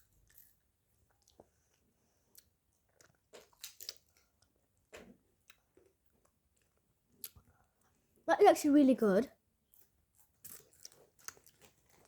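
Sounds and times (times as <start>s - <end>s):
chewing ice cream bar crunches: 0.0s - 8.0s, 9.6s - 12.0s.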